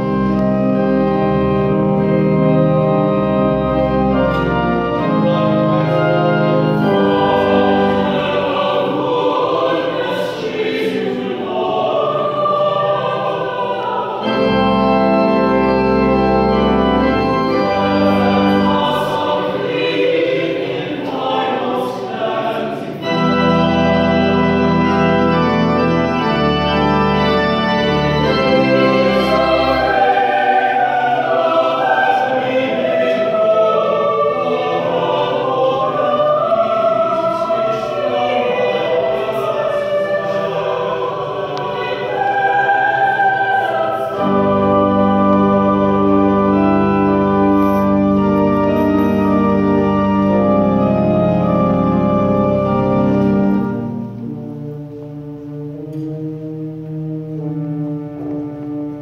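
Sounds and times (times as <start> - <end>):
choir singing an anthem: 0.0 - 54.7
church organ: 0.0 - 59.0
deep organ pedal notes: 0.0 - 59.0.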